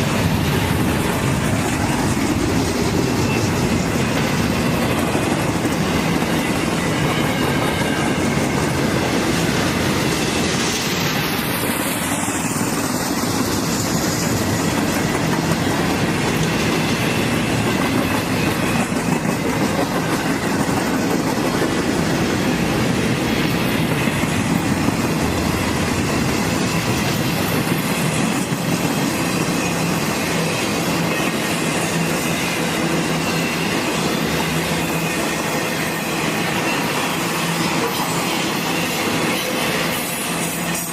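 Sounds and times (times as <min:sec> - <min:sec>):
freight train cars rolling past: 0:00.0 - 0:40.9.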